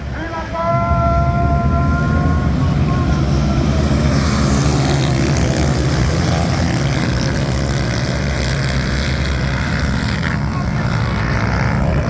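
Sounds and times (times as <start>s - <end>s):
loud engine drone: 0.0s - 12.0s.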